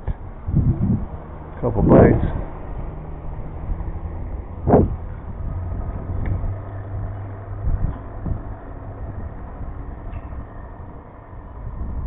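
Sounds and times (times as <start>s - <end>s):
low engine hum: 0.0s - 12.0s
low rumble: 0.0s - 12.0s.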